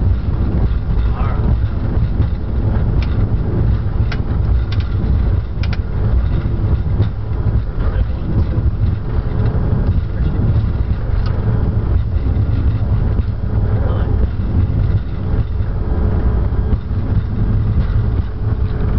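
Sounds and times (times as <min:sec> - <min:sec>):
jet engines and wheels rumbling: 0:00.0 - 0:18.9.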